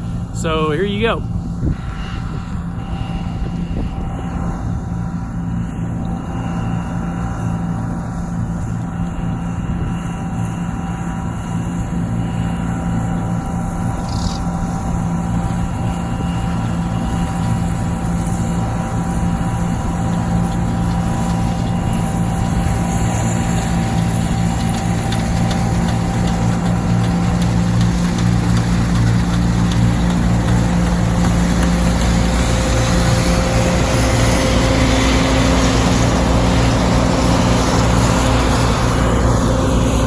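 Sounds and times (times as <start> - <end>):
combine harvester drone: 0.0 - 40.0.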